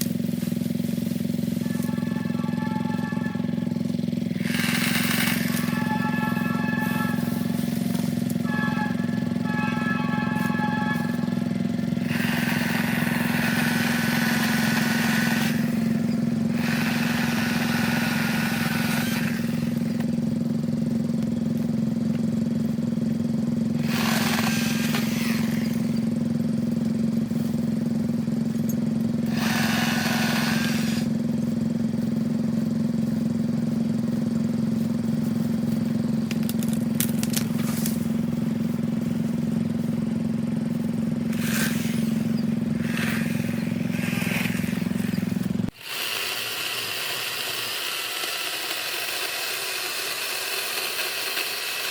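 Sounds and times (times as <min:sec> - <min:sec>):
chainsaw cutting through limbs: 0:00.0 - 0:20.4, 0:23.7 - 0:31.6, 0:34.8 - 0:51.9
chainsaw running: 0:00.0 - 0:51.9.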